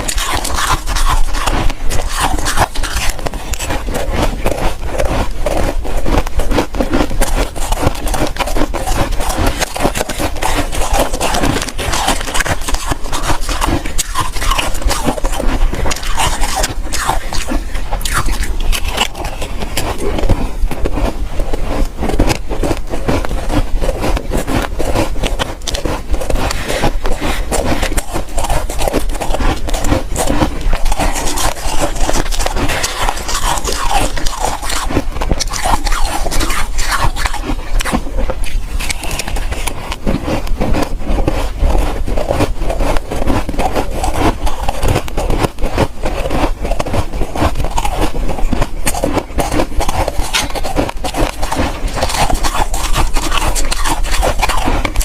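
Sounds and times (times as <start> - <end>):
ice being crunched and chewed: 0.0 - 55.0.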